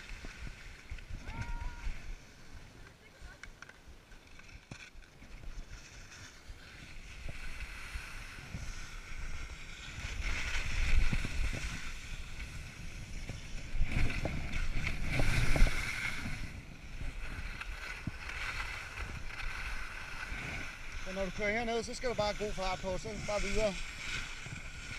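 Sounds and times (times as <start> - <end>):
wind rushing on microphone: 0.0 - 2.7, 6.8 - 24.9
skis scraping over packed snow: 0.0 - 24.9.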